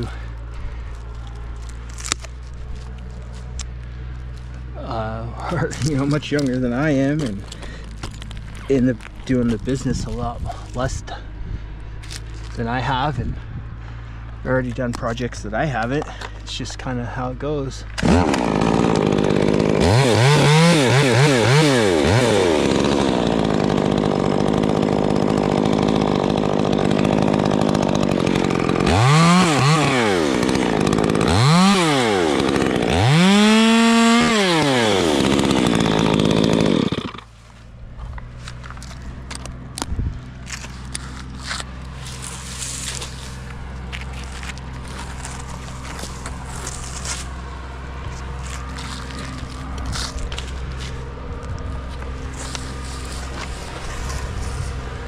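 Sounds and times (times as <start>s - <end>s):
chainsaw revving and cutting: 0.0s - 8.9s, 17.9s - 37.5s, 38.4s - 55.0s.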